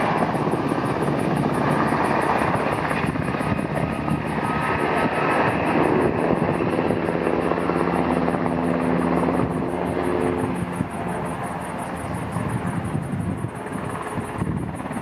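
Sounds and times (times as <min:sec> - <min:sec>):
helicopter flying past: 0:00.0 - 0:15.0.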